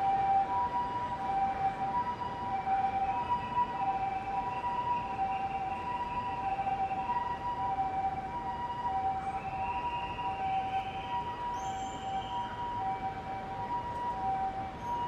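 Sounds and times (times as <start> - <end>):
ambulance siren two-tone: 0.0 - 15.0.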